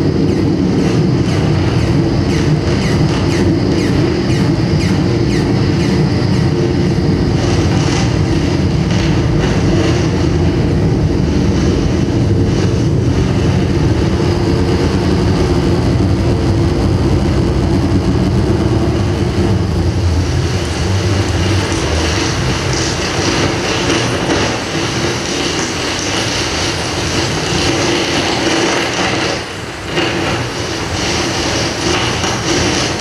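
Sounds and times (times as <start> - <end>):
experimental noise music: 0.0 - 33.0.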